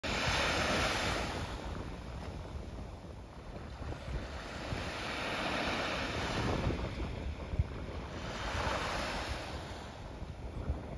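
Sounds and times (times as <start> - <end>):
small waves washing on sand: 0.0 - 10.9
wind rumble on microphone: 0.0 - 10.9.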